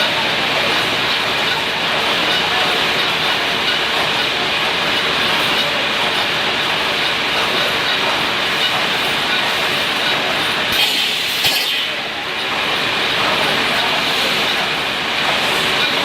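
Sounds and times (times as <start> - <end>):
welding machine running: 0.0 - 16.0.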